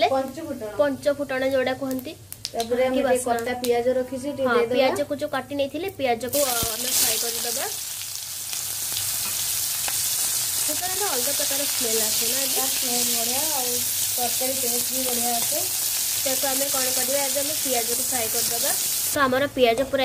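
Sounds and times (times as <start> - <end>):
onions sizzling in hot oil: 0.0 - 2.4, 5.0 - 20.0.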